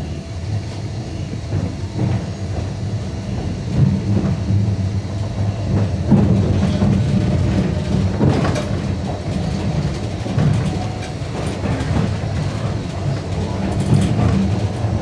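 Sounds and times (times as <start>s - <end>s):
train rumbling: 0.0s - 15.0s
wheels clicking on rails: 0.7s - 15.0s.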